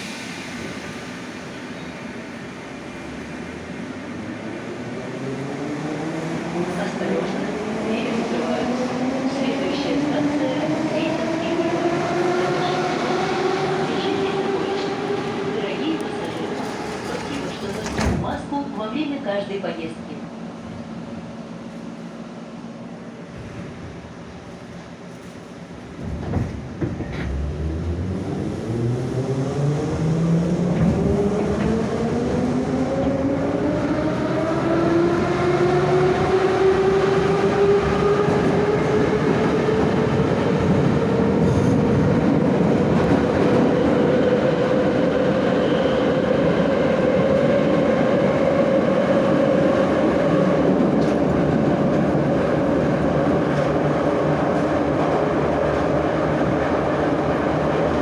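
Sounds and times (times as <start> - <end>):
wheels rumbling on rail: 0.0 - 18.6, 22.8 - 58.0.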